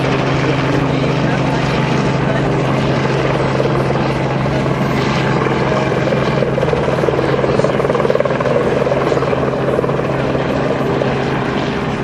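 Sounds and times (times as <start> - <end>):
loud engine drone: 0.0 - 12.0
wind: 0.0 - 12.0.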